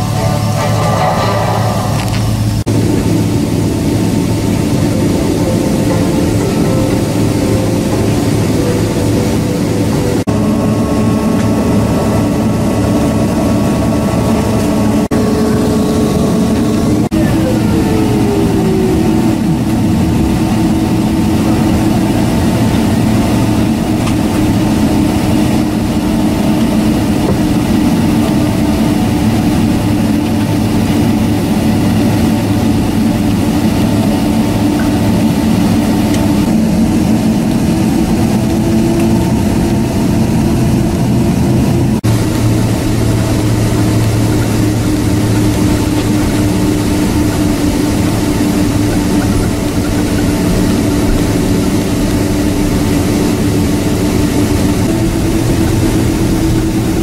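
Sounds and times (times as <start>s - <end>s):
jet engines humming in cabin: 0.0s - 57.0s.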